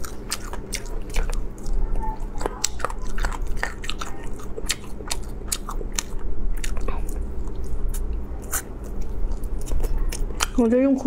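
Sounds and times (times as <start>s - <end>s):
person chewing chicken: 0.0s - 10.7s.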